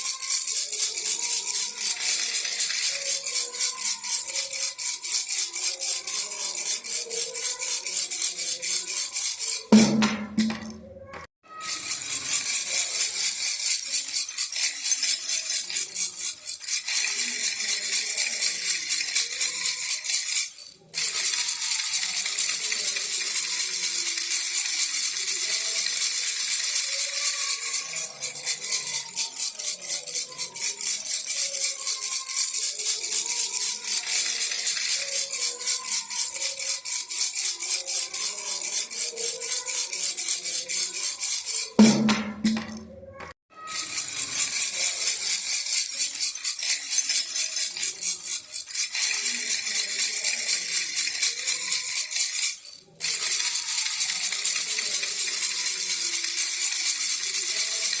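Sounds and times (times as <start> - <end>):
baby rattle shaken rapidly: 0.0 - 58.0.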